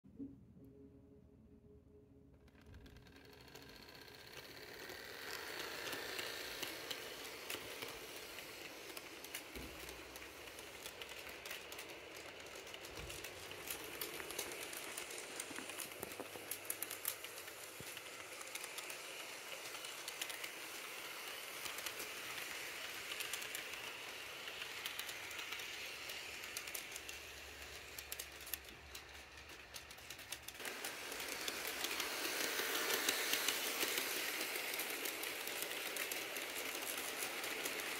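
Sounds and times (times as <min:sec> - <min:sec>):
model train cars rattling: 0:02.5 - 0:37.9.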